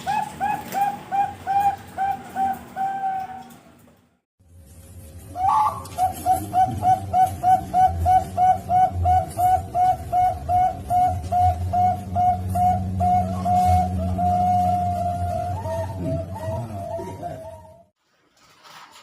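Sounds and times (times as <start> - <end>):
dove cooing: 0.0 - 3.7, 5.4 - 17.9.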